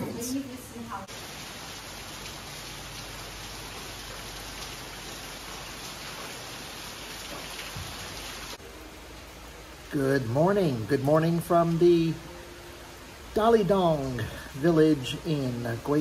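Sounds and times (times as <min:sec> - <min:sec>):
heavy rain falling: 0:00.1 - 0:16.0.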